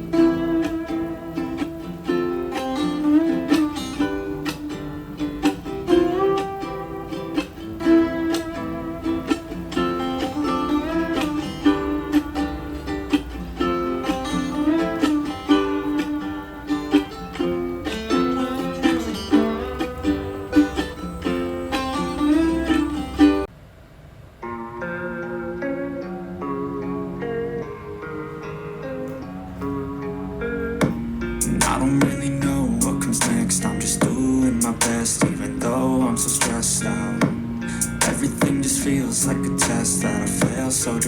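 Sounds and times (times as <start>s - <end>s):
plucked guitar melody from speaker: 0.0s - 23.5s, 24.4s - 41.0s.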